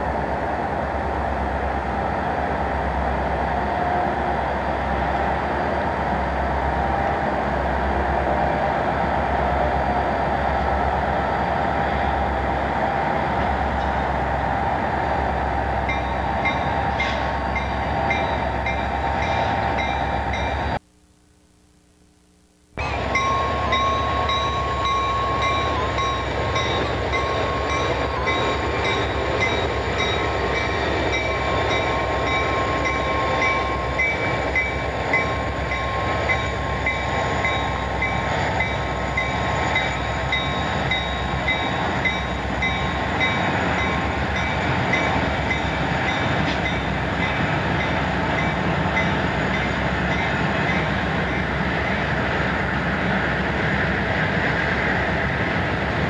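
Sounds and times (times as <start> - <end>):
diesel locomotive engine drone: 0.0 - 20.8, 22.8 - 56.0
wheel and rail noise: 0.0 - 20.8, 22.8 - 56.0.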